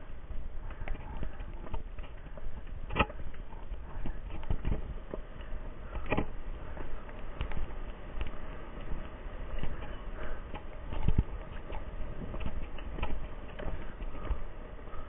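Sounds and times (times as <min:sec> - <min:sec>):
footsteps on dirt and stone: 0:00.0 - 0:15.0
camera handling rumble: 0:00.6 - 0:14.4.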